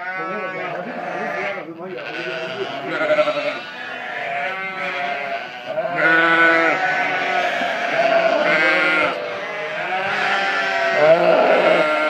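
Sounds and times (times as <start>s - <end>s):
sheep bleating: 0.0s - 12.0s.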